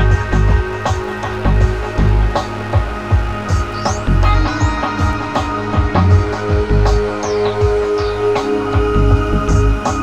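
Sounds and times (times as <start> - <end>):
music with drums and guitar: 0.0 - 10.0.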